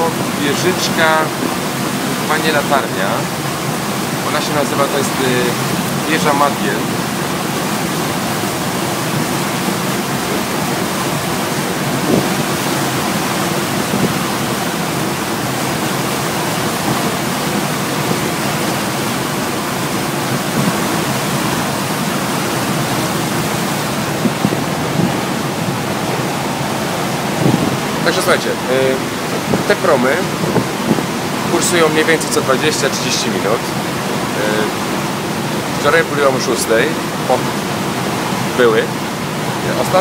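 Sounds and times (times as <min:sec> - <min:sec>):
wake water rushing: 0:00.0 - 0:40.0.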